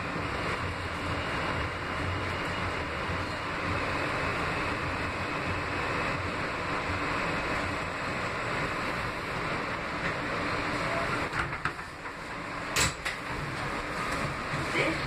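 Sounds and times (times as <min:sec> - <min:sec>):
subway car rumble and hiss: 0:00.0 - 0:15.0.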